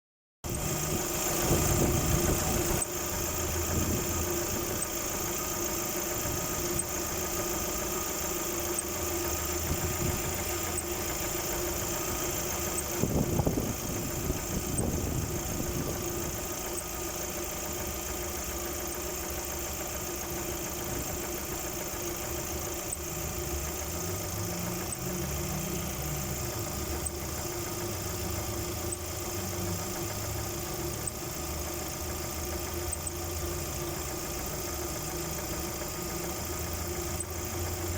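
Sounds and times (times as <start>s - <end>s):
car engine idling: 0.5s - 37.9s.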